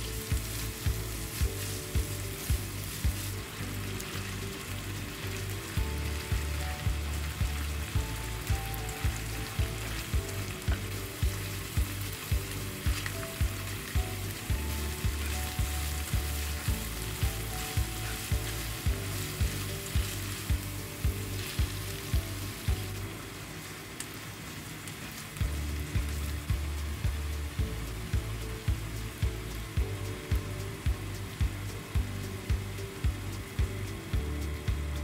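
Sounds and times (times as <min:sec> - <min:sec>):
background music with steady beat: 0:00.0 - 0:35.0
food sizzling in a pan: 0:00.0 - 0:35.0.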